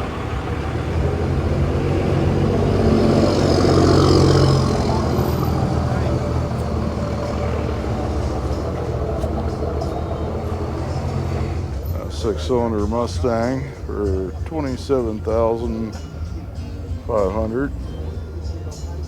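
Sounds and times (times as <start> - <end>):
people's voices: 0.0 - 19.0
vehicle engine passing: 0.0 - 19.0.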